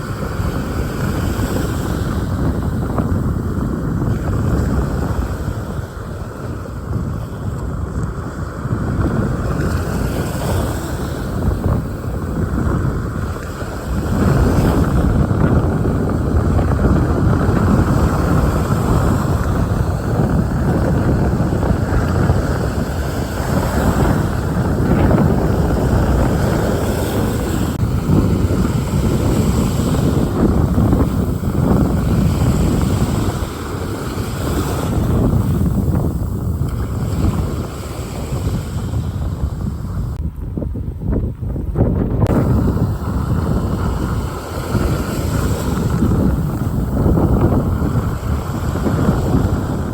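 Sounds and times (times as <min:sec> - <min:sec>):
wind blowing across microphone: 0:00.0 - 0:49.9.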